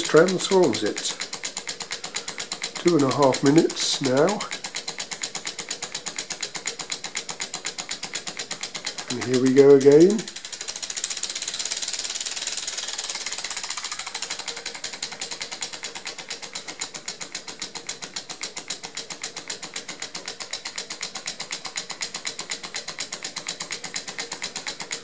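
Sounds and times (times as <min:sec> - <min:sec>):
stirling engine clicking: 0:00.0 - 0:25.0.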